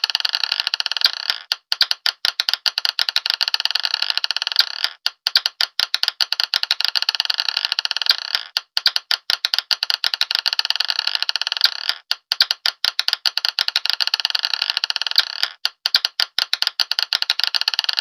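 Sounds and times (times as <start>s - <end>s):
marbles clattering: 0.0s - 18.0s.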